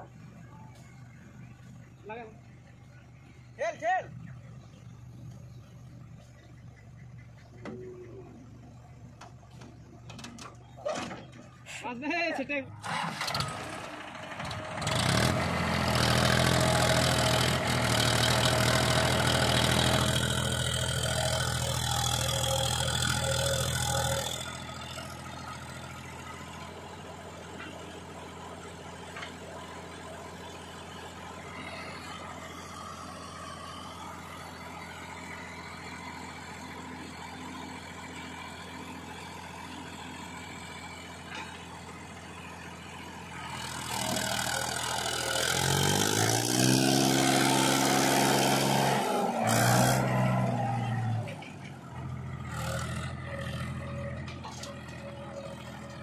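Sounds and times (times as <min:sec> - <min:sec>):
tractor diesel engine: 0:00.0 - 0:56.0.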